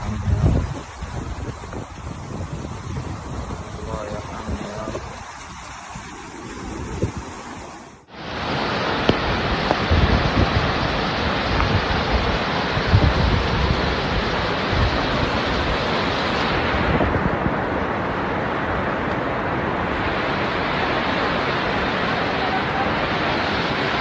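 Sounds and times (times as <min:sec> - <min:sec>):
floodwater rushing: 0:00.0 - 0:24.0
wind buffeting microphone: 0:00.0 - 0:24.0.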